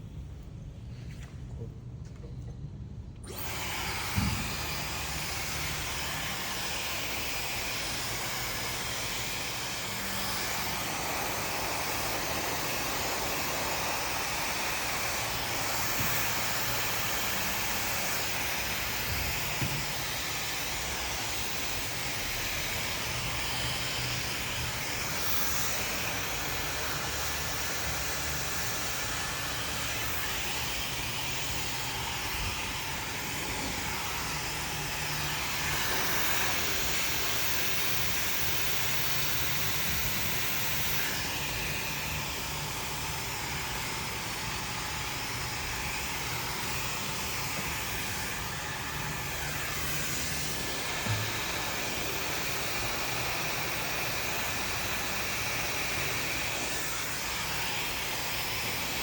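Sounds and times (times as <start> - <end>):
hair dryer blowing: 3.2 - 59.0.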